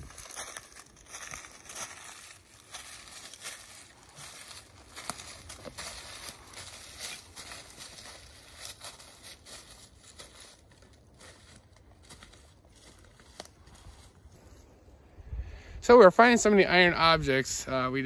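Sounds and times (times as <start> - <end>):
footsteps crunching through dry leaves: 0.0 - 14.8.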